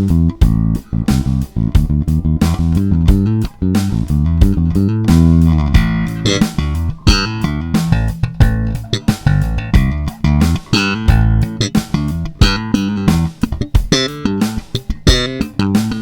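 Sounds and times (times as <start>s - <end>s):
electric bass playing short notes: 0.0s - 16.0s.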